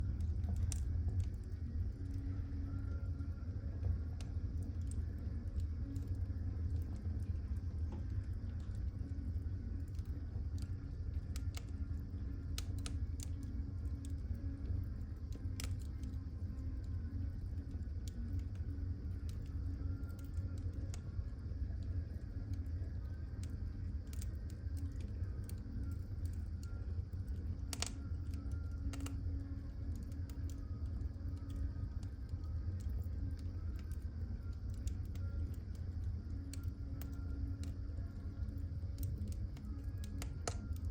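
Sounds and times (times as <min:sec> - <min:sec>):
fire crackles and pops: 0:00.0 - 0:40.9
fire flames rumbling: 0:00.0 - 0:40.9.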